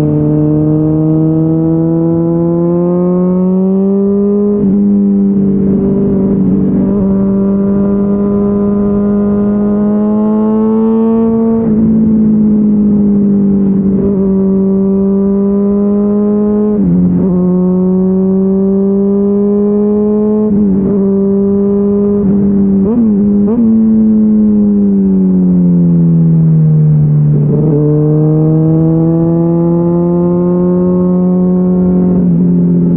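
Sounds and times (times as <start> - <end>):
motorcycle engine at high revs: 0.0 - 32.9.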